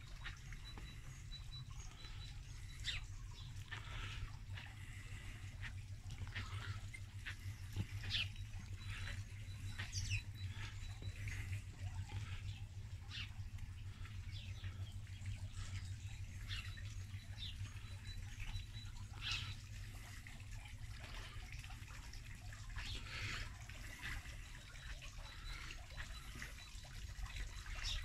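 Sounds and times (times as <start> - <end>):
birds chirping: 0.0 - 28.0
fountain water splashing: 0.0 - 28.0.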